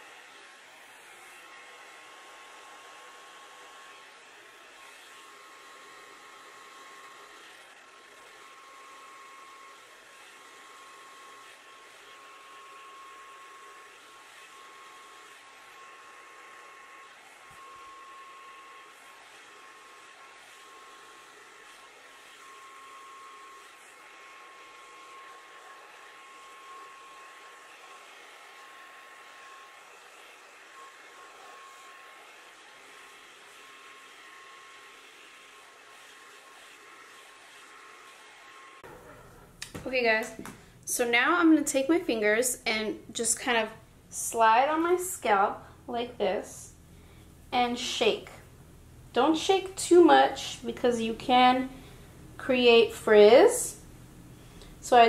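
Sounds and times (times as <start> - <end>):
hair dryer blowing: 0.0 - 55.0.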